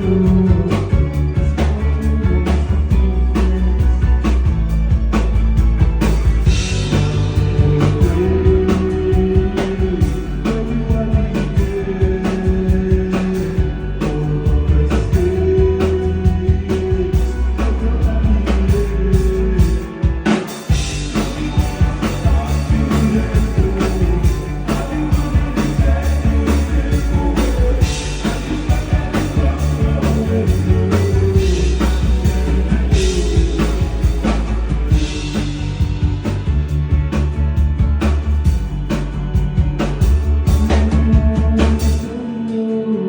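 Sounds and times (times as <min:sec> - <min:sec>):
drums steady beat: 0:00.0 - 0:42.1
bass guitar: 0:00.0 - 0:43.0
electric guitar: 0:00.0 - 0:43.0.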